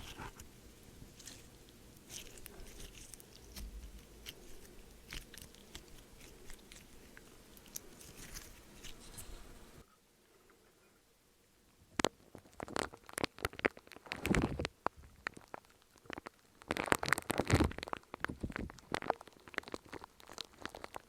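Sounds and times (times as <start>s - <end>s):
crunchy snack being chewed: 0.0s - 9.5s, 12.4s - 21.0s.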